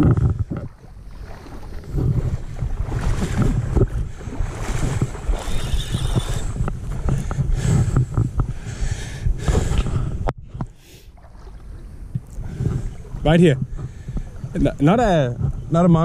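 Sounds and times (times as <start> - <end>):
shallow water lapping and splashing: 0.0 - 15.7
wind buffeting microphone: 0.0 - 16.0.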